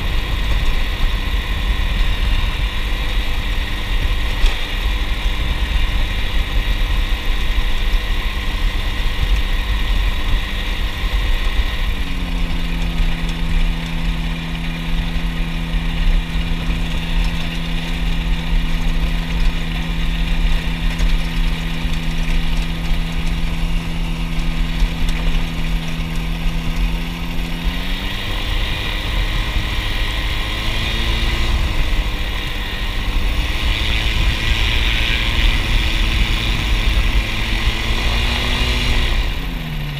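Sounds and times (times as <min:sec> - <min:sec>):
light aircraft engine and propeller: 0:00.0 - 0:39.9
low rumble: 0:00.0 - 0:39.9.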